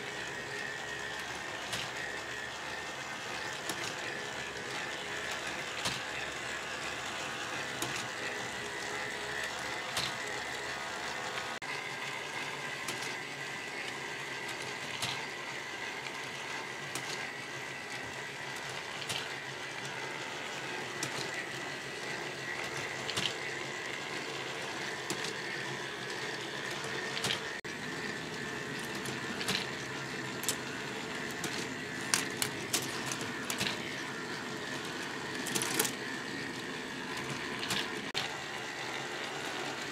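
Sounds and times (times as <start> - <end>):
plastic gears whirring: 0.0 - 39.9
thin motor whine: 0.0 - 39.9.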